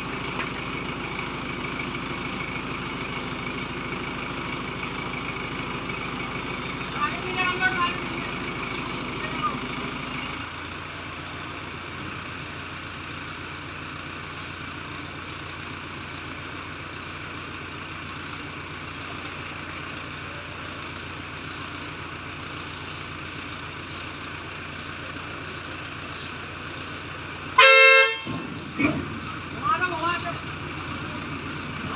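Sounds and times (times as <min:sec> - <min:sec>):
crane diesel engine running: 0:00.0 - 0:31.9.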